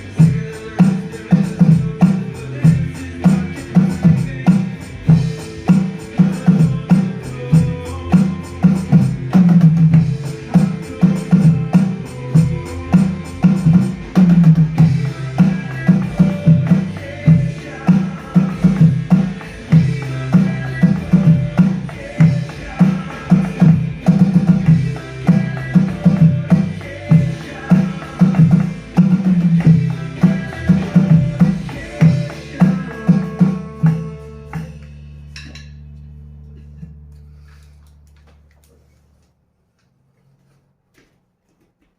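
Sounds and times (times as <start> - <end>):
drum kit playing: 0.0 - 36.8
rock music from speaker: 0.0 - 37.4.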